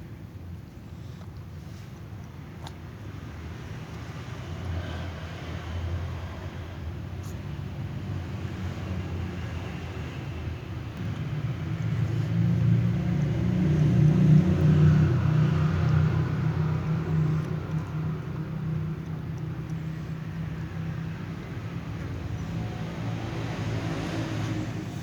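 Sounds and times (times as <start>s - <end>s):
engine rumbling: 3.0s - 25.0s.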